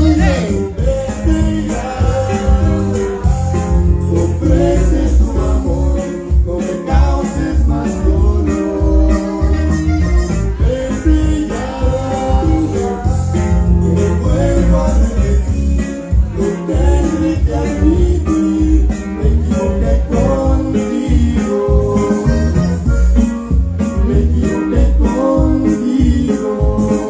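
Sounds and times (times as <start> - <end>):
band playing romantic ballad: 0.0 - 27.0
shaker keeping a beat: 0.0 - 27.0.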